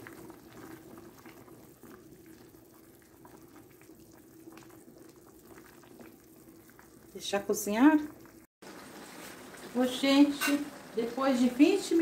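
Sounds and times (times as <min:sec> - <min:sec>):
faint bubbling and sloshing water: 0:00.0 - 0:12.0.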